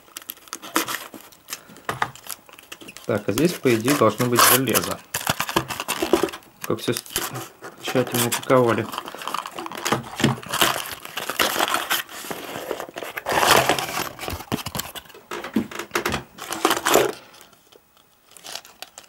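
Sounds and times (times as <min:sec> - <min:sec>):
packaging rustling: 0:00.0 - 0:19.0.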